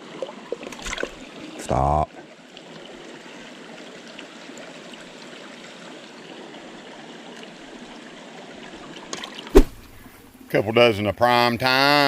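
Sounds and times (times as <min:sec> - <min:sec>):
creek water rushing: 0:00.0 - 0:10.6.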